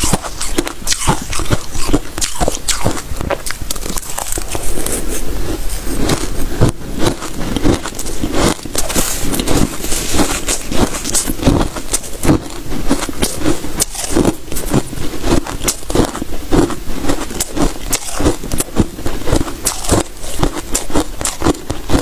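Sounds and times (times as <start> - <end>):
chewing crunchy ice: 0.0 - 22.0.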